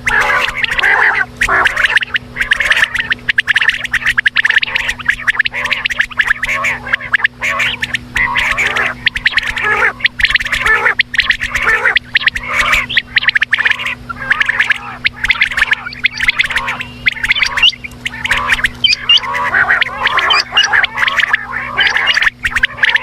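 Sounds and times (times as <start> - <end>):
quail chattering rattle: 0.0 - 23.0
quail rising chirps: 0.0 - 23.0.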